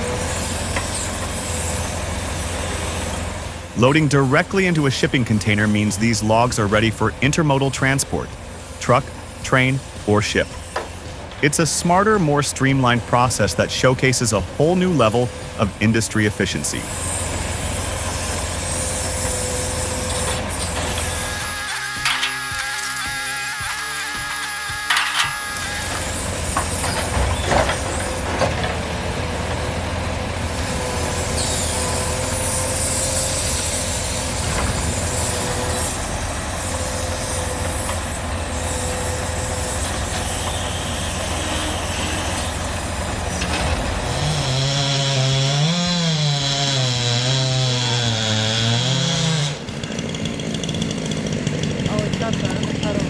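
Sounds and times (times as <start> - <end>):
engine revving unevenly: 0.0 - 53.0
power saw cutting wood: 0.0 - 53.0.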